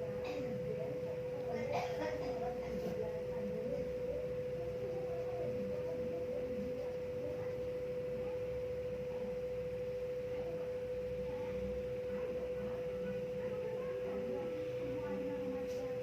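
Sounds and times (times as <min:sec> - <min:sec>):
faint indistinct sounds: 0:00.0 - 0:16.0
steady pure tone: 0:00.0 - 0:16.0.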